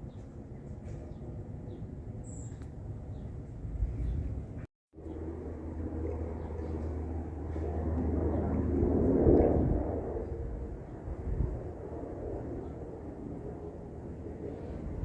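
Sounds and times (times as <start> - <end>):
airplane passing overhead: 0.0 - 15.0.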